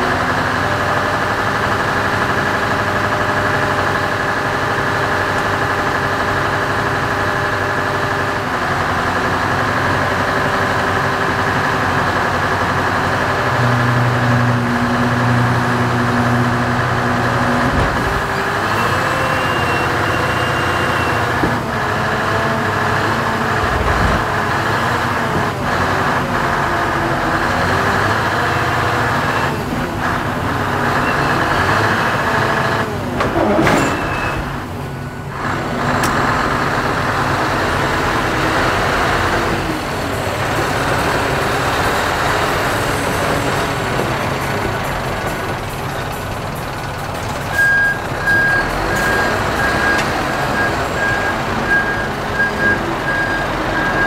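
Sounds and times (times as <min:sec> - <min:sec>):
diesel engine at raised revs: 0:00.0 - 0:54.0.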